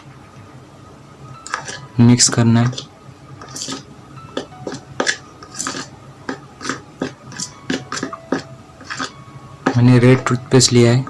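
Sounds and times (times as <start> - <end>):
sticky clicks and scrapes of stirring: 1.4 - 10.4.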